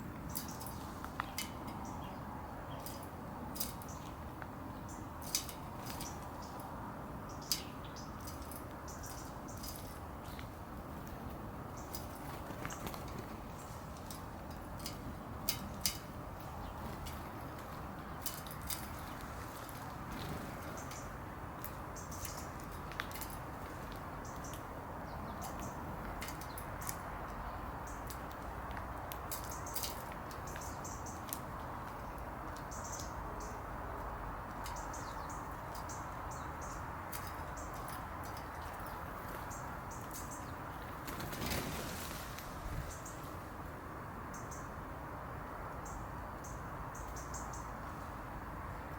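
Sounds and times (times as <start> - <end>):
outdoor background noise: 0.0 - 48.9
steady background hiss: 0.0 - 48.9
birds tapping at a feeder: 0.1 - 33.6, 34.4 - 41.8.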